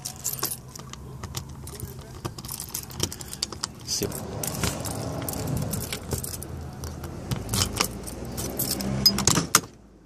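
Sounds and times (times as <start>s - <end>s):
keys jangling: 0.0s - 9.4s
sharp clicks and rattles: 0.0s - 9.8s.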